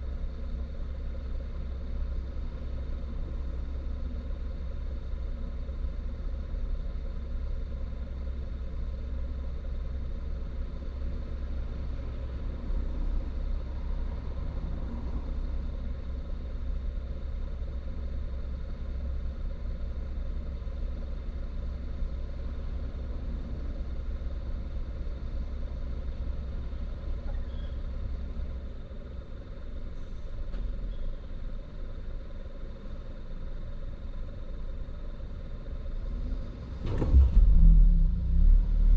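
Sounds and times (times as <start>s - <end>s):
road and tyre rumble in car: 0.0s - 38.9s.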